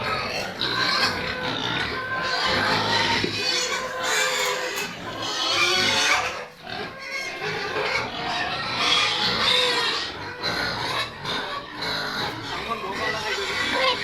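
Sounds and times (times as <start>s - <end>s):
pigs squealing and grunting: 0.0s - 14.0s.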